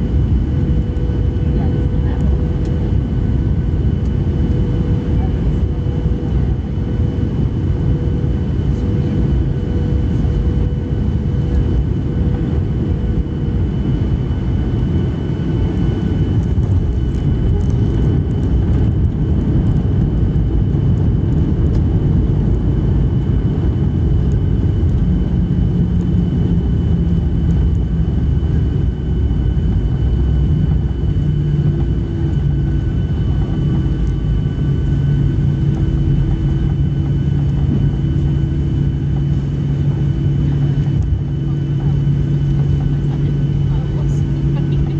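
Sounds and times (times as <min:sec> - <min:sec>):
jet engine and wheel rumble: 0:00.0 - 0:44.9
low hum: 0:00.0 - 0:44.9.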